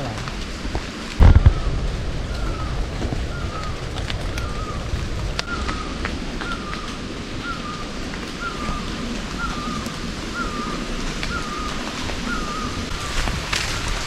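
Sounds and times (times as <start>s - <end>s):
steady rushing noise: 0.0s - 14.0s
bird calling: 1.2s - 14.0s.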